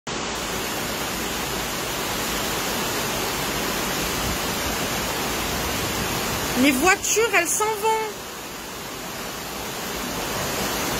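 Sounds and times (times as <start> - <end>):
floodwater rushing: 0.1 - 10.9
torrential rain: 0.1 - 10.9.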